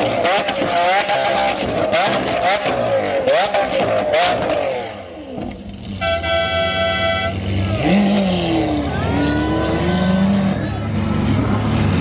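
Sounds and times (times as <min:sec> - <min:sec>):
car engine revving: 0:00.0 - 0:06.1, 0:07.3 - 0:12.0.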